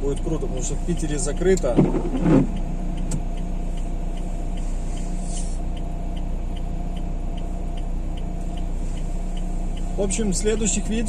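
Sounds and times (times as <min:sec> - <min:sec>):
car engine and road noise: 0:00.0 - 0:11.0
even ticking: 0:00.0 - 0:11.0.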